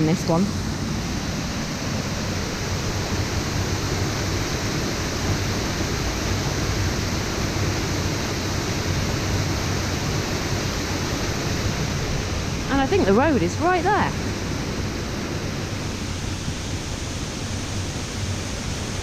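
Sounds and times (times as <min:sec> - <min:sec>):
water rushing over waterfall: 0:00.0 - 0:19.0.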